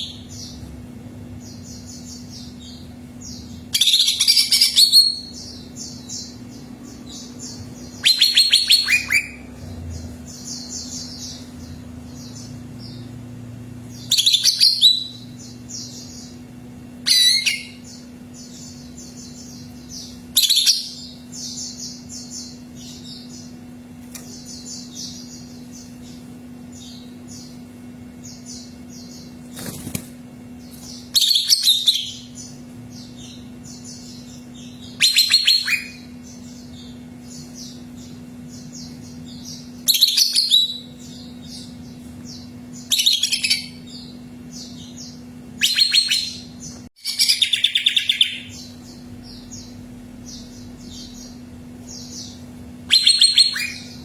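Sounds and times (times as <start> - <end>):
loud fast bird song phrases: 0.0 - 54.0
bird chittering: 1.4 - 13.2, 13.9 - 16.4, 17.0 - 23.6, 30.7 - 54.0.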